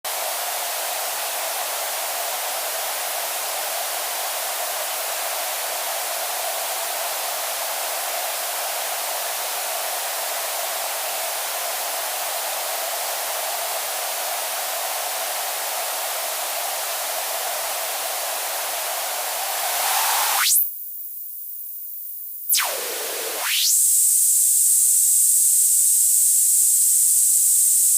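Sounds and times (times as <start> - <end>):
television static hiss: 0.3 - 20.7, 22.5 - 27.9.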